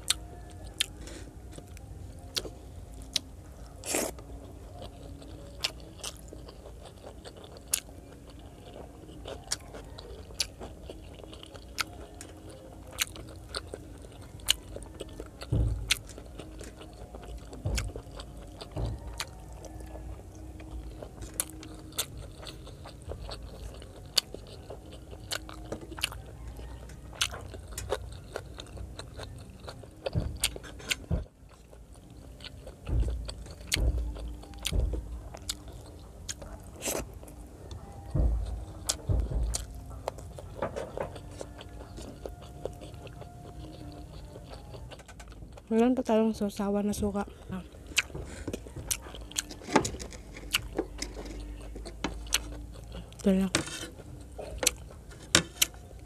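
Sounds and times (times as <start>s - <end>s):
chewing with wet mouth clicks: 0.0s - 56.0s.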